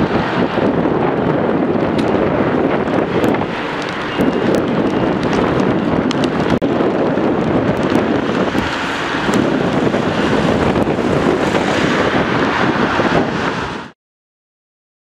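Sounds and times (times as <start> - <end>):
jet engine noise: 0.0 - 14.0
wind buffeting microphone: 0.0 - 14.0.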